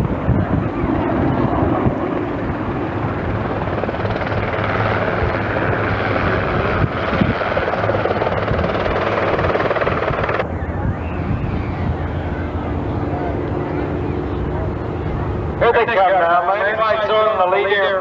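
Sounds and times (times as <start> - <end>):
propeller aircraft flying past: 0.0 - 18.0.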